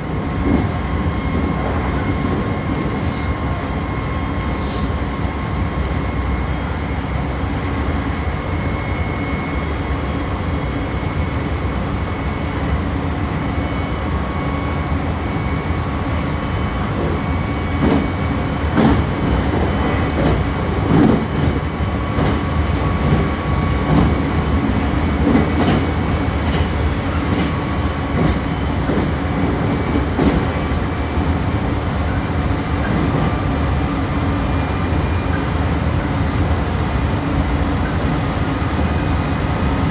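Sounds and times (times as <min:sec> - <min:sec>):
train rumbling with faint whine: 0:00.0 - 0:39.9.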